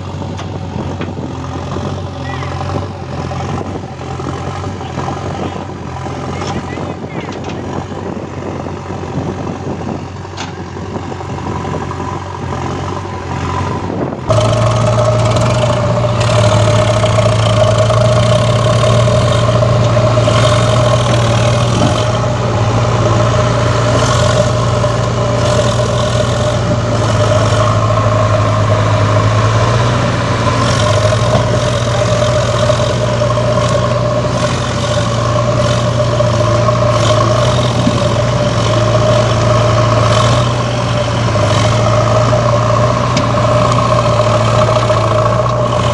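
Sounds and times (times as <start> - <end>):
heavy vehicle engine running: 0.0 - 45.9.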